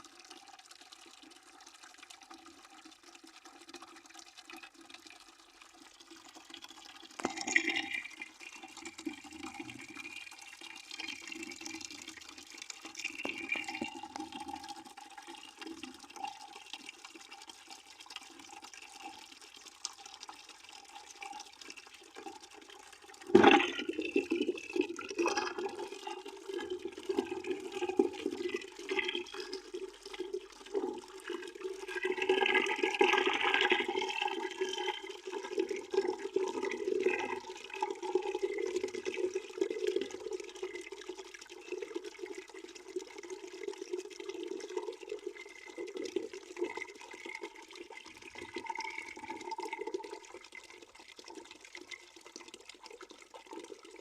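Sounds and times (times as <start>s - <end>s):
tap water running into bucket: 0.0s - 54.0s.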